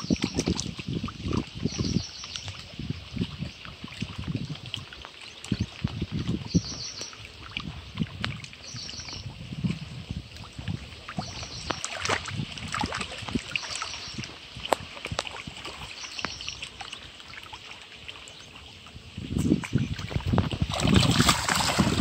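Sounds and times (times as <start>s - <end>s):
small waves lapping against rocks: 0.0s - 22.0s
water clicks and trickles: 0.0s - 22.0s.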